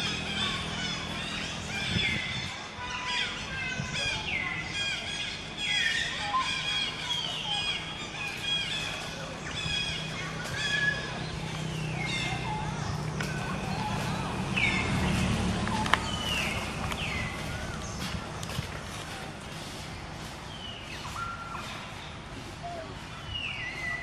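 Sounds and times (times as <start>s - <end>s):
birds chirping downward: 0.0s - 24.0s.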